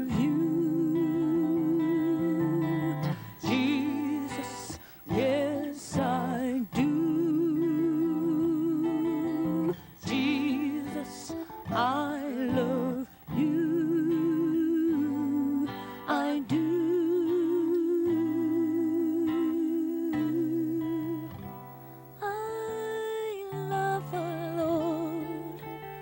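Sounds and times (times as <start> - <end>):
person singing long held notes: 0.0 - 21.4, 22.2 - 26.0
gospel accompaniment: 0.0 - 22.2.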